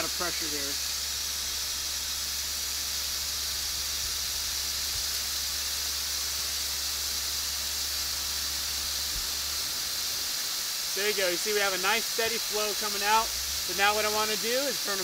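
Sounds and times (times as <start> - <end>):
water and air hissing: 0.0 - 15.0.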